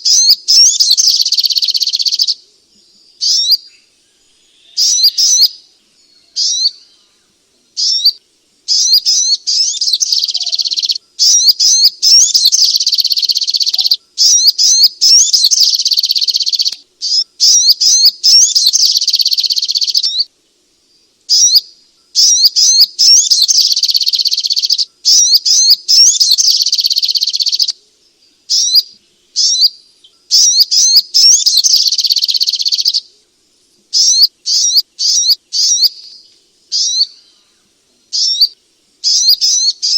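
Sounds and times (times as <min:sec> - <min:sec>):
songbird chattering song: 0:00.0 - 0:39.9.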